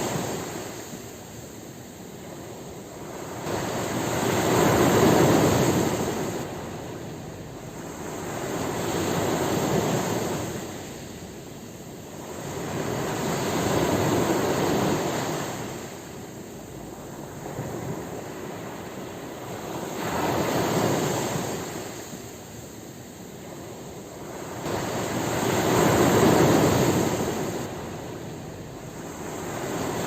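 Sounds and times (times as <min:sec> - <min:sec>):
ocean waves breaking on shore: 0:00.0 - 0:30.0.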